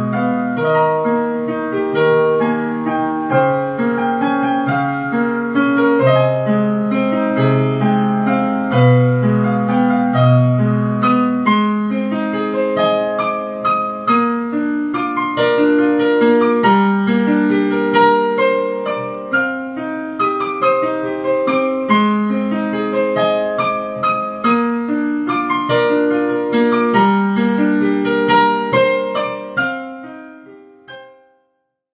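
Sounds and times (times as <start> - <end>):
piano music: 0.0 - 31.6.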